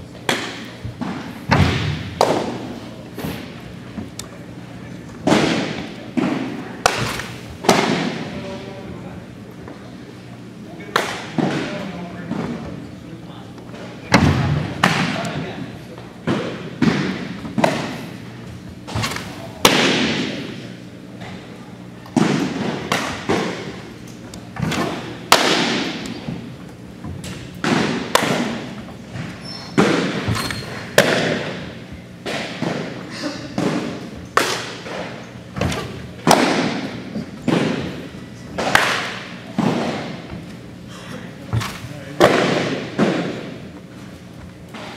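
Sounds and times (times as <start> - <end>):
baseballs smacking into mitts: 0.2 - 4.4, 5.2 - 8.5, 10.9 - 12.7, 13.8 - 15.4, 16.0 - 20.6, 21.2 - 40.6, 41.6 - 44.1.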